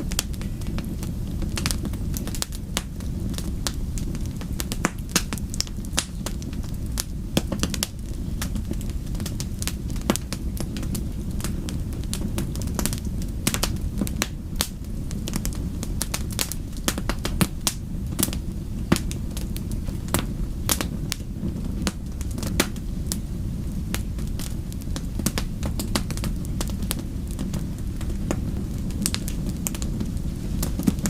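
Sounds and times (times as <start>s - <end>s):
low rumble: 0.0s - 31.0s
wood fire crackling and popping: 0.0s - 31.0s.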